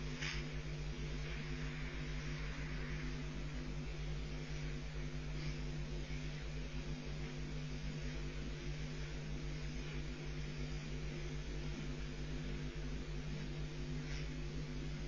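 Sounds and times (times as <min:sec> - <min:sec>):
constant hiss: 0:00.0 - 0:15.0
electrical hum: 0:00.0 - 0:15.0.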